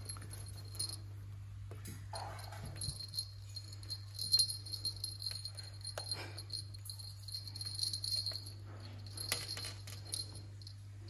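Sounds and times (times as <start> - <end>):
small metal bell jingling: 0.0 - 11.0.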